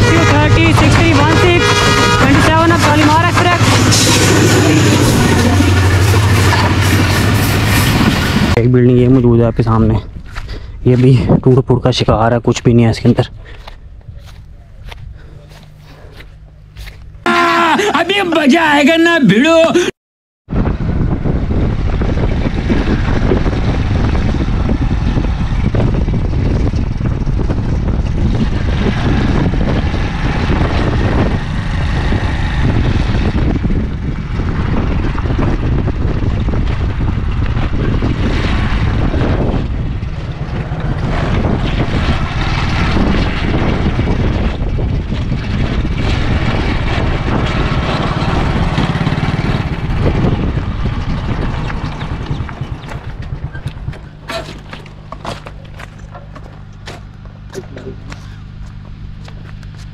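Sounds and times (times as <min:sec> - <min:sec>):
wind buffeting microphone: 0:00.0 - 0:17.0, 0:20.5 - 0:59.9.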